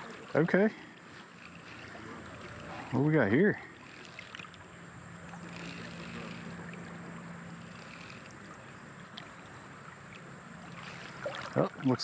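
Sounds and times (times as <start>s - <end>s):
creek water running: 0.0s - 12.0s
low steady hum: 0.0s - 12.0s.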